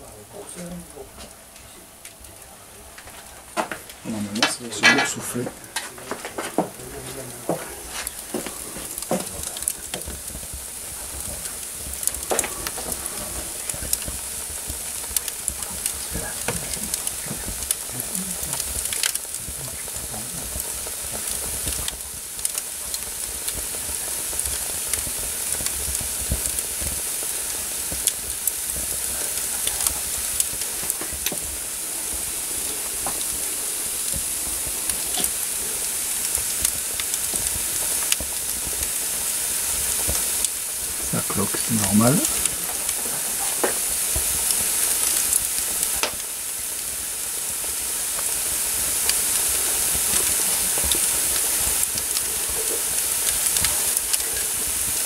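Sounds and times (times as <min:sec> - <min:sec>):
batter sizzling: 0:00.0 - 0:55.0
embers crackling: 0:00.0 - 0:55.0.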